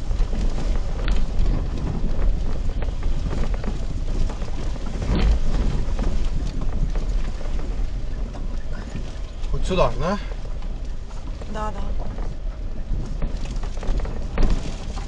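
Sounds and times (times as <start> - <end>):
engine and tyres rumbling: 0.0 - 15.0
vehicle body knocks and rattles: 0.0 - 15.0.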